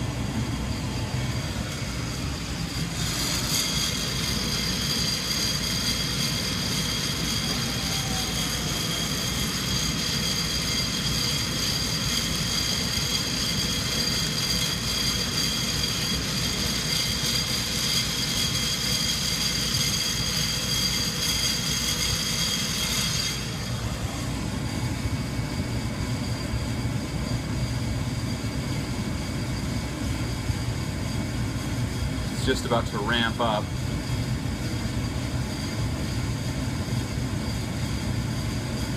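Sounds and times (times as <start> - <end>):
coffee roaster rumble: 0.0 - 38.9
roaster blower high whine: 0.0 - 38.9.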